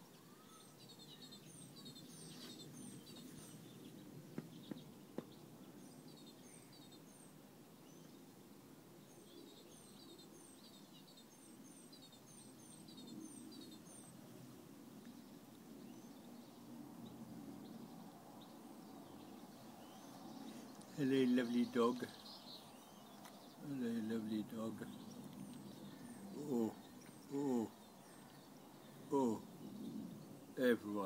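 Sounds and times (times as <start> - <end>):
faint bird chirps: 0.0 - 14.2, 15.0 - 31.0.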